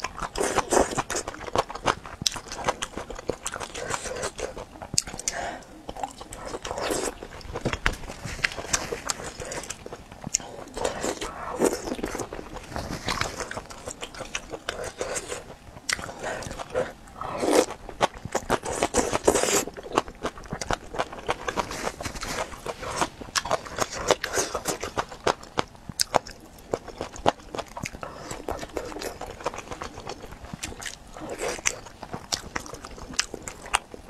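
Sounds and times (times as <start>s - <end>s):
wet chewing and biting: 0.0s - 34.0s.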